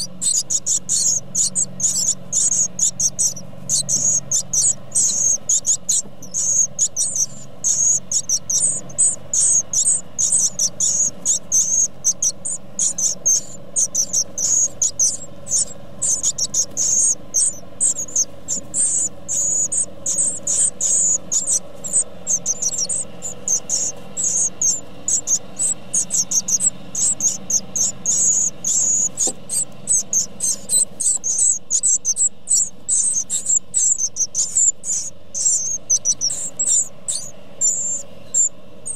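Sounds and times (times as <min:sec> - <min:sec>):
nestlings cheeping: 0:00.0 - 0:38.9.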